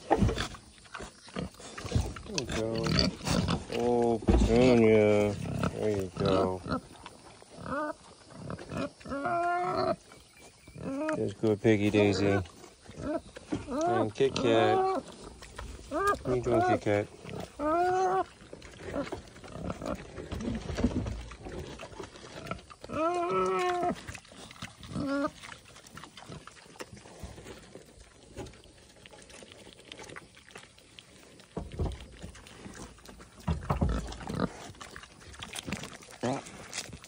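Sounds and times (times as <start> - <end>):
pigs grunting and snuffling: 0.0 - 37.0.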